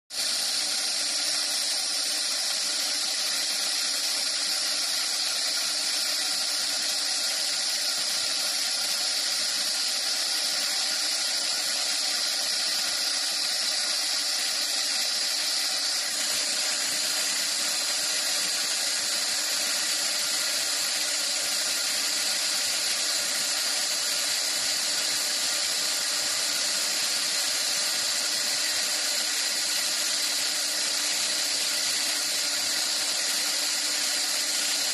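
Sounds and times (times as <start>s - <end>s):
wood lathe cutting wood: 0.1s - 34.9s.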